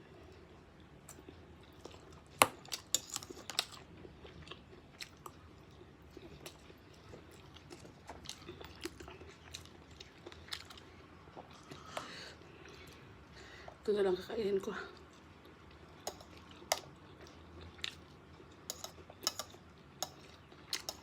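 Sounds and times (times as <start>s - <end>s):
person chewing noodles: 1.1s - 13.2s, 15.0s - 21.0s.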